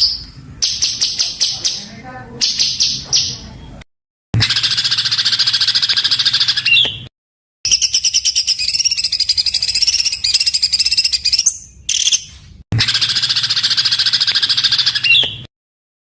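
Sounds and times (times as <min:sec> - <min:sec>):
songbird rapid harsh notes: 0:00.0 - 0:03.7, 0:04.4 - 0:07.0, 0:07.7 - 0:15.4.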